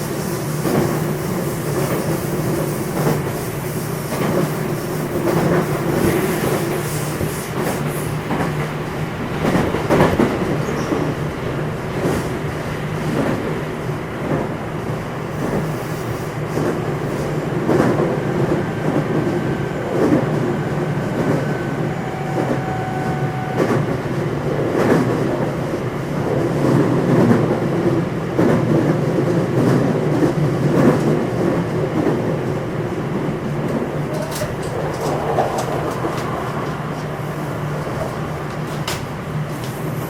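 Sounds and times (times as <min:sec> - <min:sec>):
train wheels rumbling on rail: 0:00.0 - 0:40.0
rail joint clicks: 0:00.1 - 0:40.0.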